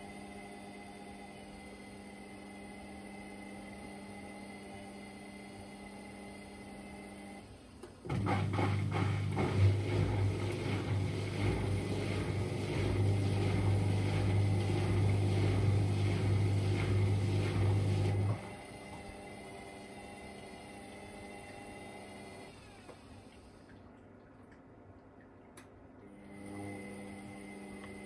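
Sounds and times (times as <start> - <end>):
dryer drum motor hum: 0.0 - 24.6, 25.6 - 28.0.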